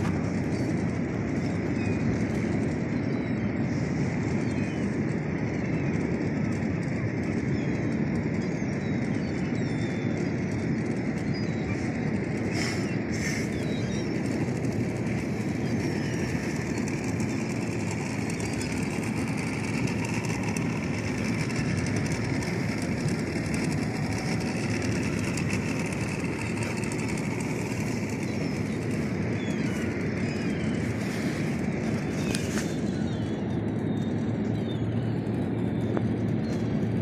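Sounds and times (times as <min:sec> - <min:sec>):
outboard motor running: 0:00.0 - 0:05.0, 0:05.6 - 0:37.0.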